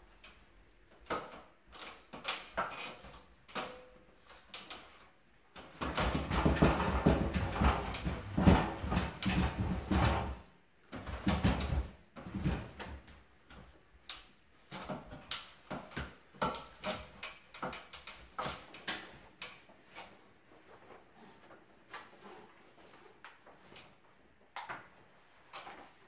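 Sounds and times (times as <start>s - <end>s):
handling knocks clicks and rustles: 0.2s - 26.0s.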